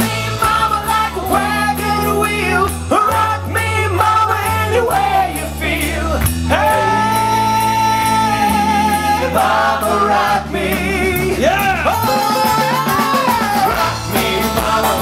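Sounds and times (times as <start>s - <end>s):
country rock band playing: 0.0s - 15.0s
voices singing together: 0.0s - 15.0s.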